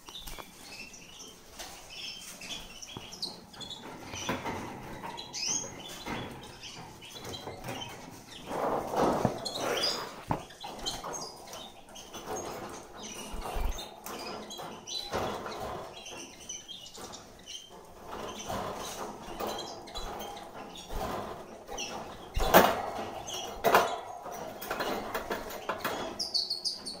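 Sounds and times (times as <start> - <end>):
canaries chirping: 0.0 - 27.0
scrapes in wire cage: 3.6 - 27.0.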